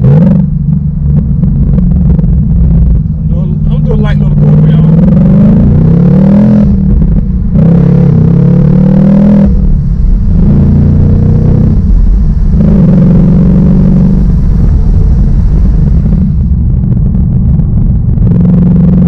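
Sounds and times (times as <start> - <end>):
car engine accelerating through gears: 0.0 - 19.0.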